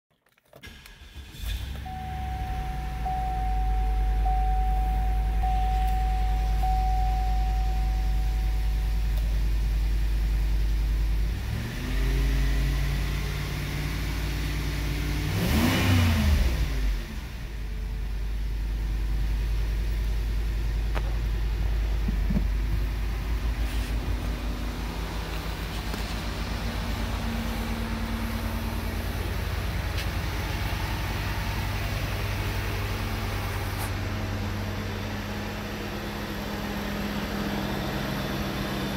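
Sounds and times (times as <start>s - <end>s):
car engine idling and revving: 0.4s - 38.9s.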